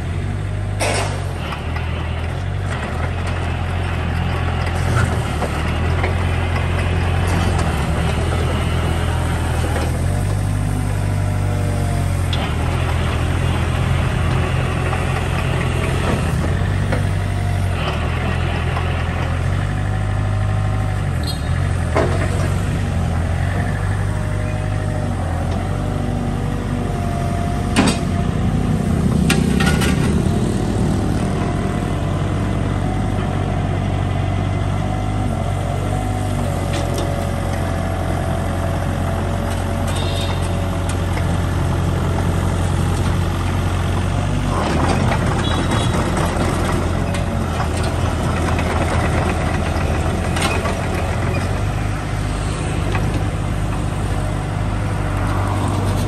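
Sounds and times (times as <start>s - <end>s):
diesel excavator engine running: 0.0s - 56.0s.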